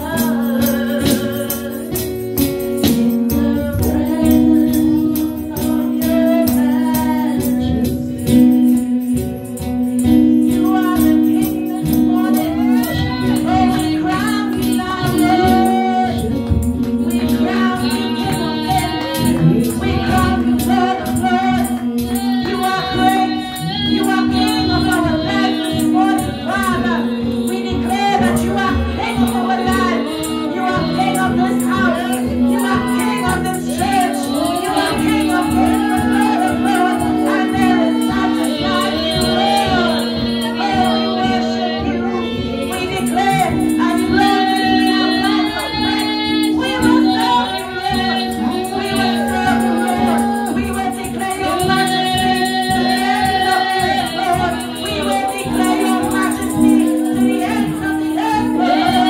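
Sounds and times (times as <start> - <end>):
held instrumental chords: 0.0 - 59.0
tambourine shaking beat: 0.0 - 59.0
woman singing into microphone: 0.0 - 59.0
backing singers: 10.8 - 59.0.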